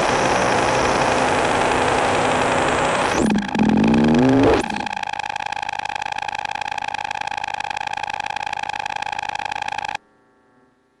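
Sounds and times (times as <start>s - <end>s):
buzzy pulsing synthesizer drone: 0.0s - 10.0s.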